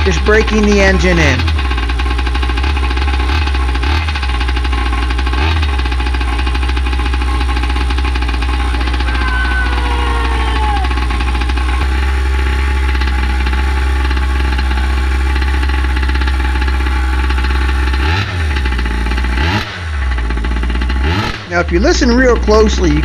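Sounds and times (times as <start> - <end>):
engine throttle blips: 0.0 - 23.0
small two-stroke engine idling: 0.0 - 23.0.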